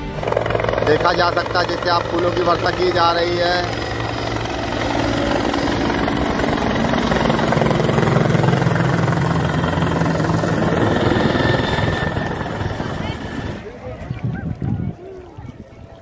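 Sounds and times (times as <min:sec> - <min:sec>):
helicopter engine hum: 0:00.0 - 0:13.8
helicopter rotor chopping: 0:00.0 - 0:14.7.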